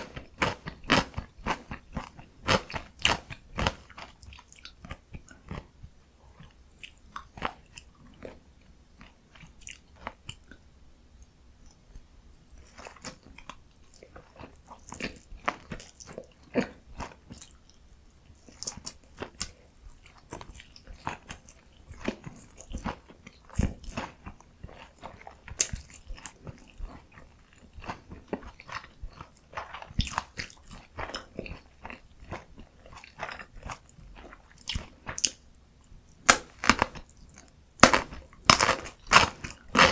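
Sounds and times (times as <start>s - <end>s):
crunchy eating and chewing: 0.0s - 10.7s, 11.6s - 39.9s.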